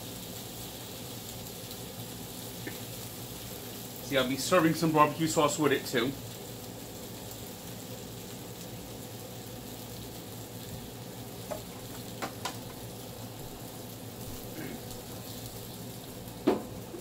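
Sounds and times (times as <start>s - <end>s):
chicken sizzling on a grill: 0.0s - 17.0s.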